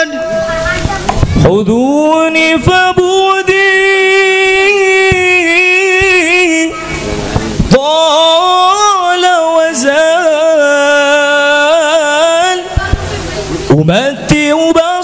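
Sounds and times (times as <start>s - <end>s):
man singing devotional song: 1.4s - 15.0s.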